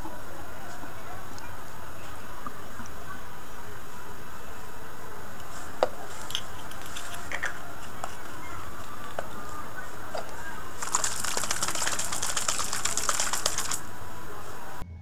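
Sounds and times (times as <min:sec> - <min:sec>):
steady hiss: 0:00.0 - 0:14.8.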